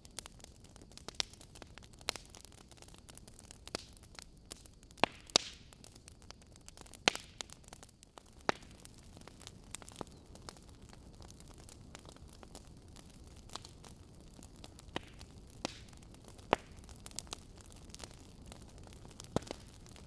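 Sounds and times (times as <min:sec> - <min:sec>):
faint steady hiss: 0:00.0 - 0:20.0
fire crackling and popping: 0:00.0 - 0:20.0.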